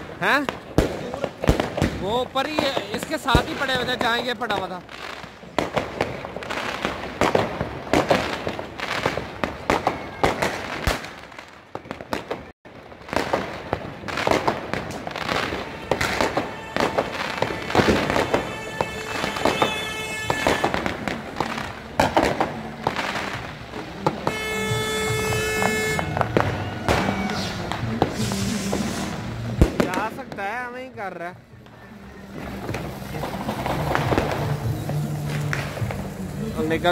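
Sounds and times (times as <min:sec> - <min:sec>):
fireworks and firecrackers banging: 0:00.0 - 0:36.9.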